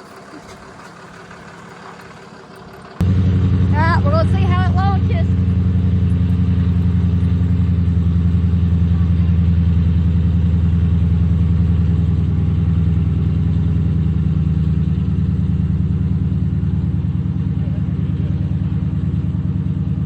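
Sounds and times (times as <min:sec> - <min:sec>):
car engine idling loudly: 0:00.0 - 0:20.0.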